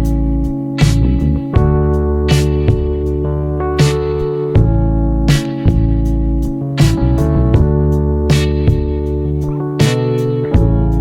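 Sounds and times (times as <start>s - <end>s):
instrumental guitar music: 0.0s - 11.0s.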